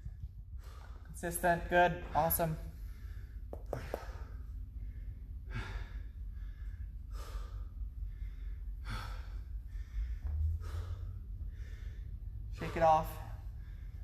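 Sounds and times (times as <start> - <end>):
man breathing hard: 0.0 - 1.2, 2.6 - 14.0
steady low hum: 0.0 - 14.0.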